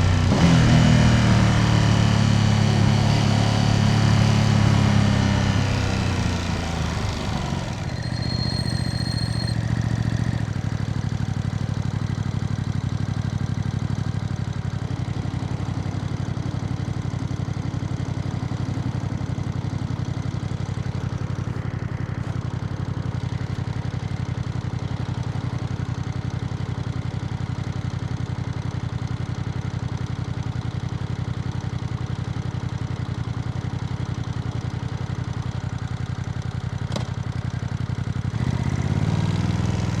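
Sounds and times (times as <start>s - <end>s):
motorcycle engine slowing and idling: 0.0s - 40.0s.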